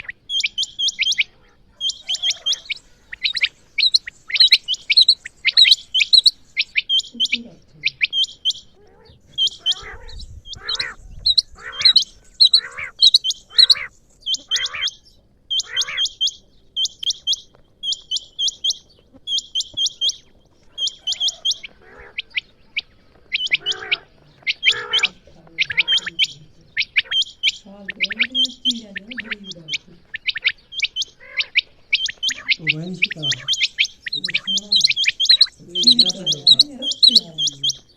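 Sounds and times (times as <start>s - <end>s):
lower rough quail call: 0.0s - 37.9s
quail high chirps: 0.0s - 37.9s.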